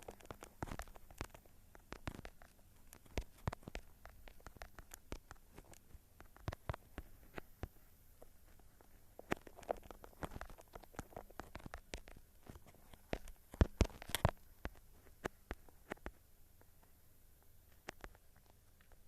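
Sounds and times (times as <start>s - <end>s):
light clicks and taps: 0.0s - 19.0s.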